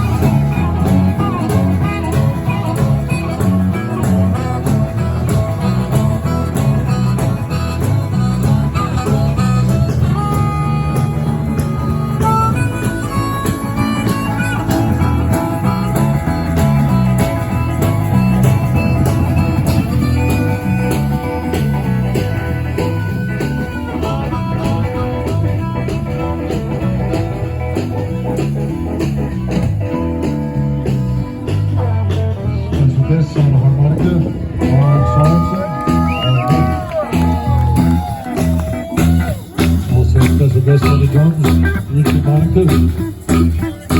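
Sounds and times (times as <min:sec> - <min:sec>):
blues guitar melody: 0:00.0 - 0:43.9
steady drum beat: 0:00.0 - 0:43.9
walking bass line: 0:00.0 - 0:43.9.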